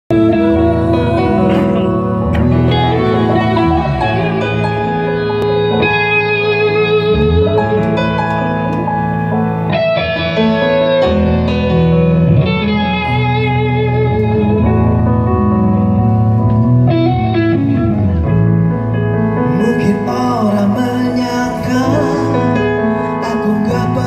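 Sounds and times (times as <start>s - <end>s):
electric guitar: 0.1s - 24.0s
keyboard: 0.1s - 24.0s
live rock band playing: 0.1s - 24.0s.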